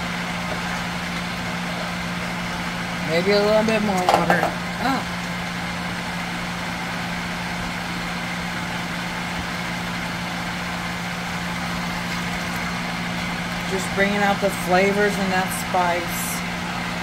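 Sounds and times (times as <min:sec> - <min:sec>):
fan motor humming: 0:00.0 - 0:17.0.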